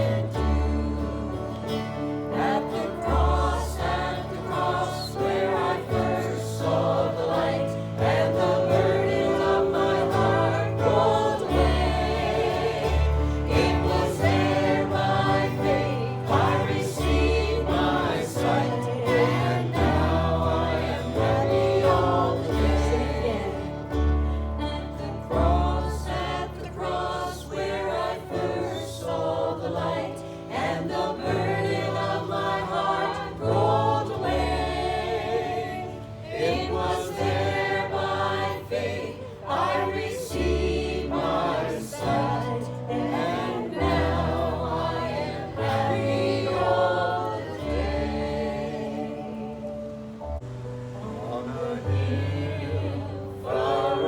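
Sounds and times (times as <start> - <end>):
group singing gospel song: 0.0 - 54.0.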